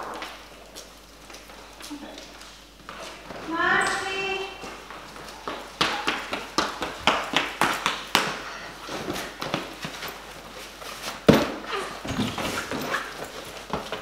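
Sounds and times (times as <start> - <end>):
child running on tiled floor: 0.0 - 11.3, 12.0 - 14.0.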